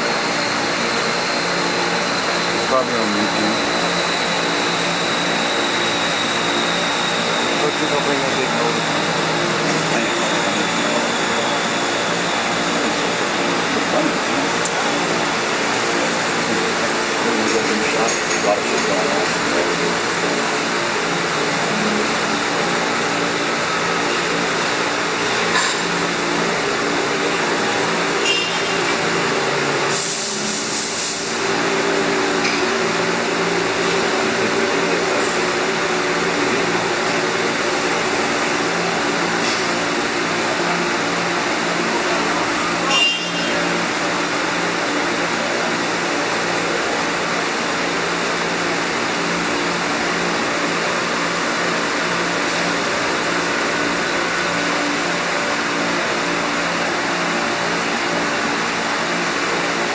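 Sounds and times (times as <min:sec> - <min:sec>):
mill machine humming: 0:00.0 - 0:59.9.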